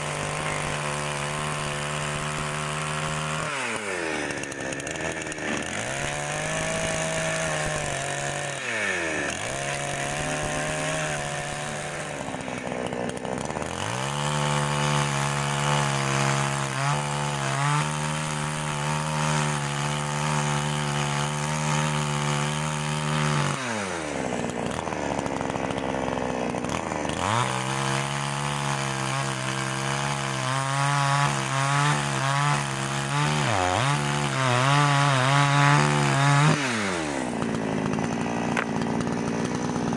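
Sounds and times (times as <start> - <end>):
chainsaw cutting: 0.0 - 39.9.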